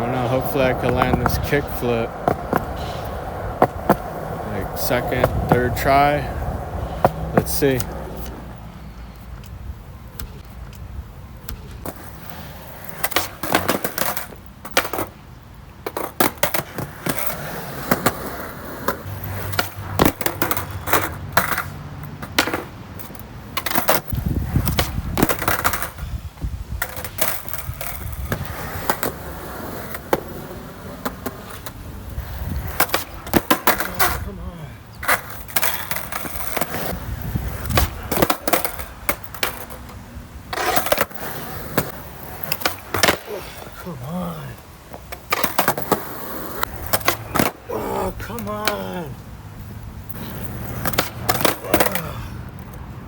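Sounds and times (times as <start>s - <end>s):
skateboard clacking and landing: 0.0s - 8.6s, 11.4s - 15.2s, 15.8s - 26.0s, 26.8s - 34.4s, 35.0s - 43.8s, 44.9s - 47.7s, 50.1s - 52.8s
skateboard wheels rumbling: 0.0s - 53.0s.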